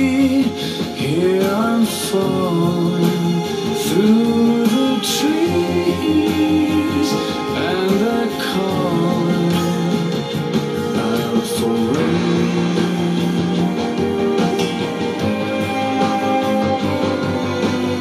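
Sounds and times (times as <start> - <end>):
pop-rock song playing: 0.0 - 18.0.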